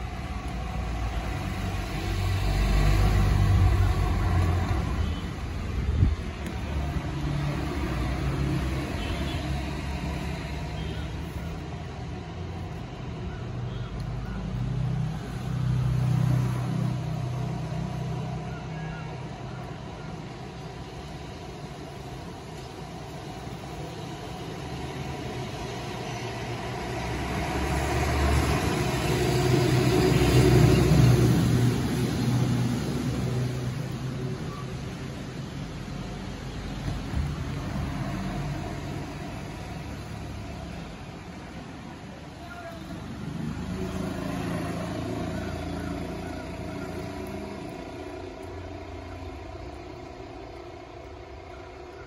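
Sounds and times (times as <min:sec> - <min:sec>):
engine humming: 0:00.0 - 0:52.0.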